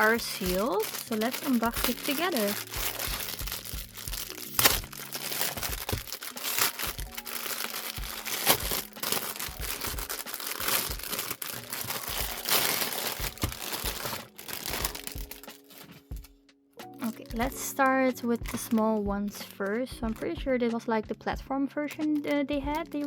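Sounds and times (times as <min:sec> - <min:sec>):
plastic shrink-wrap crinkling: 0:00.0 - 0:16.3, 0:17.0 - 0:20.2, 0:22.0 - 0:23.0
soft background music: 0:00.0 - 0:23.0.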